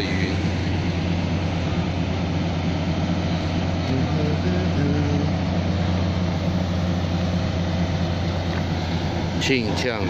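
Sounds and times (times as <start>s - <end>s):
diesel train engine droning: 0.0s - 10.0s.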